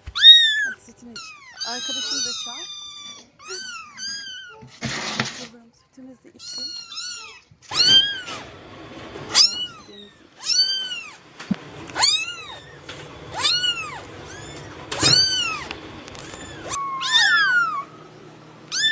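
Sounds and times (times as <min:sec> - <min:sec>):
cat meowing: 0:00.0 - 0:04.8, 0:06.4 - 0:08.4, 0:09.3 - 0:11.2, 0:12.0 - 0:18.0, 0:18.7 - 0:18.9.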